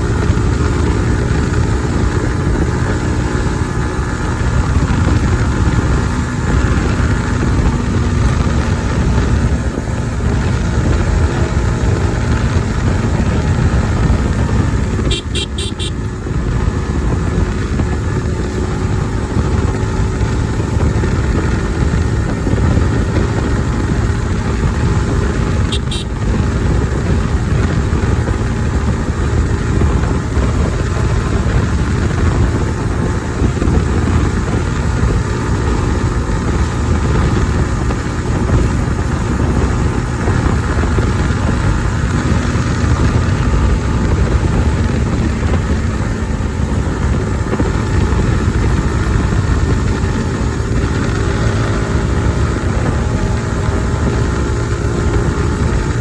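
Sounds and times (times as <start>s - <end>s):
motorcycle engine cruising: 0.0s - 56.0s
road and wind noise: 0.0s - 56.0s.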